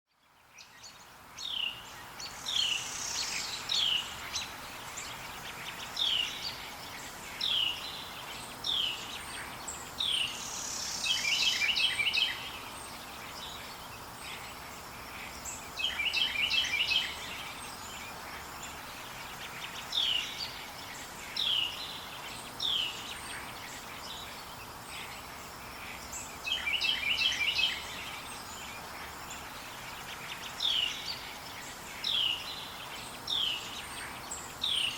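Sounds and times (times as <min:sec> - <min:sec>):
faint background hiss: 0:00.1 - 0:34.9.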